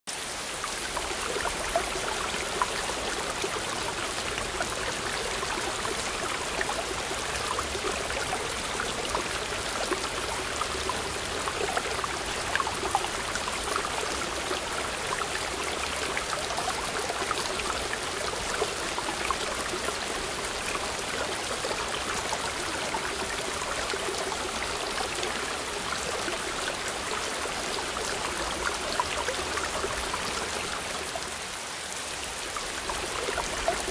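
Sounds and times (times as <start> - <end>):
rush of falling water: 0.1 - 33.9.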